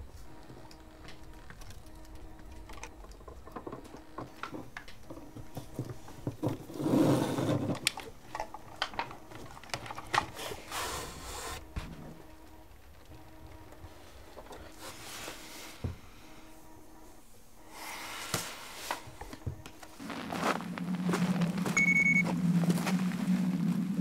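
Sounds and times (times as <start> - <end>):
rustling noise: 4.0 - 24.0.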